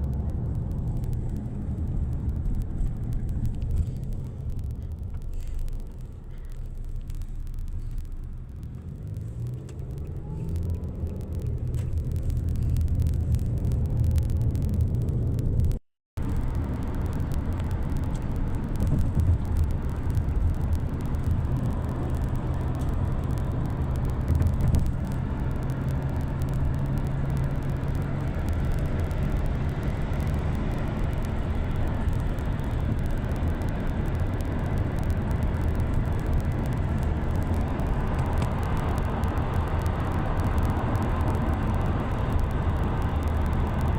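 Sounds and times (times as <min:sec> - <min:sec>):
road vehicle rumbling: 0:00.0 - 0:43.9.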